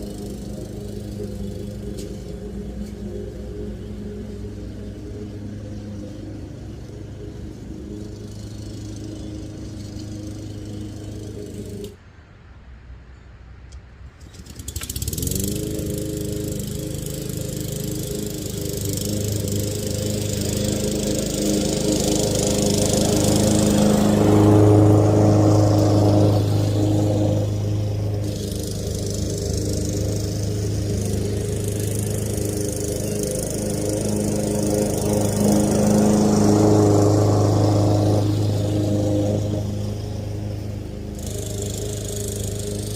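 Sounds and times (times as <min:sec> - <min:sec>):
lawnmower engine running: 0:00.0 - 0:12.0, 0:14.0 - 0:42.9.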